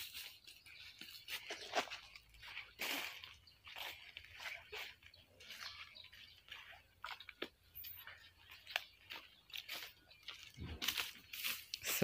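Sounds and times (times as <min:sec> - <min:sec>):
footsteps crunching on dry leaves: 0:00.0 - 0:12.0.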